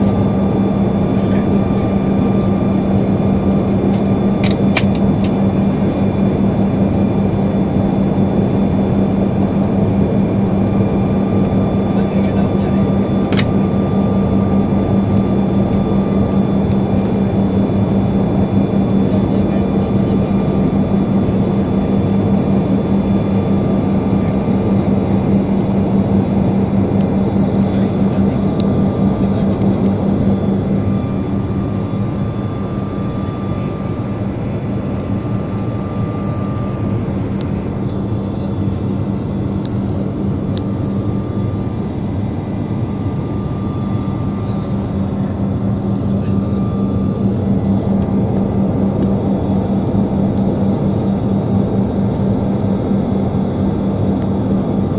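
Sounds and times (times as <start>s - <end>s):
airliner cabin engine drone: 0.0s - 54.9s
low hum: 0.0s - 54.9s.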